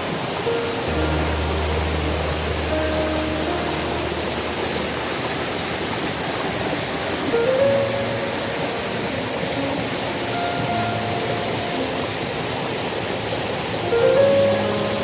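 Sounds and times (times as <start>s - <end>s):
soft background music: 0.0s - 15.0s
stream water rushing: 0.0s - 15.0s.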